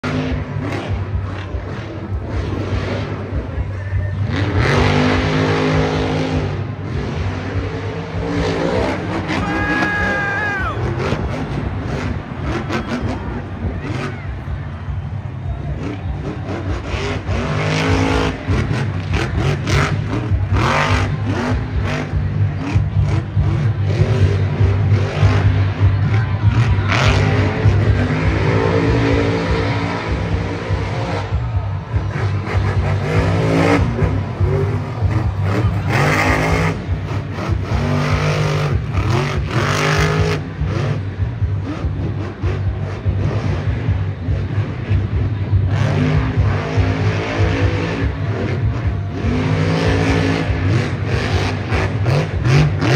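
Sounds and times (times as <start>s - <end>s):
monster truck engine revving: 0.0s - 52.9s.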